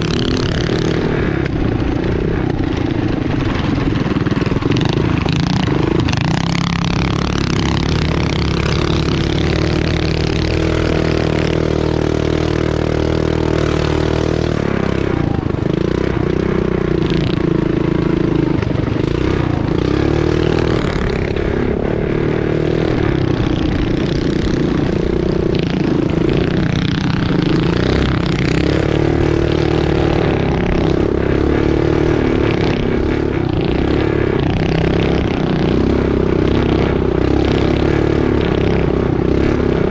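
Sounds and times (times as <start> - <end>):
mini bike engine racing: 0.0 - 39.9.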